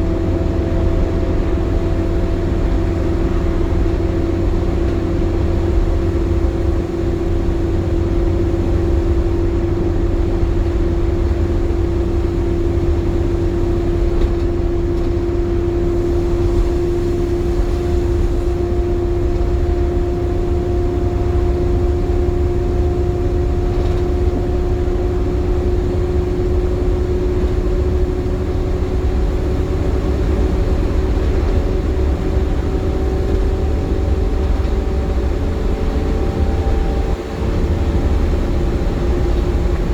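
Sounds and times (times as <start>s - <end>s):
bus engine and road rumble: 0.0s - 39.9s
cooling fan whine: 0.0s - 39.9s.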